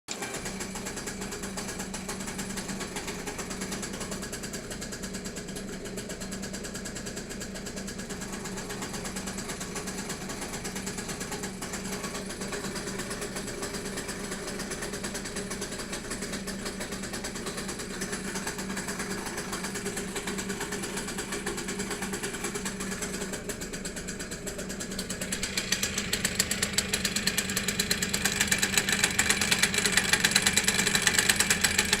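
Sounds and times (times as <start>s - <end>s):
car engine idling: 0.1s - 32.0s
rapid mechanical rattle: 0.1s - 32.0s.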